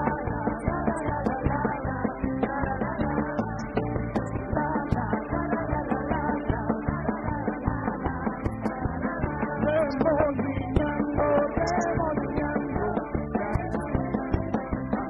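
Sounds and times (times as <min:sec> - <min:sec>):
man singing lead: 0:00.0 - 0:15.0.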